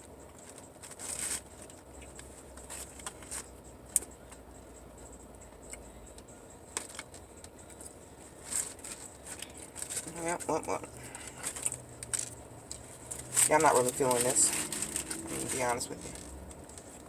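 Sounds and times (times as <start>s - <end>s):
food handling clicks and rustles: 0.0s - 4.1s, 6.7s - 17.0s.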